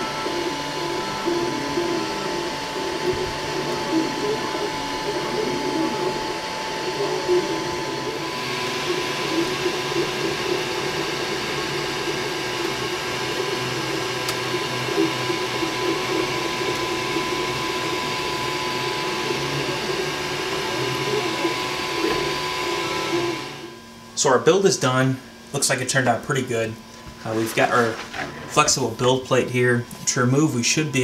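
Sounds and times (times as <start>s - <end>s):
printer fan hum: 0.0s - 31.0s
printer motors whining: 0.0s - 31.0s.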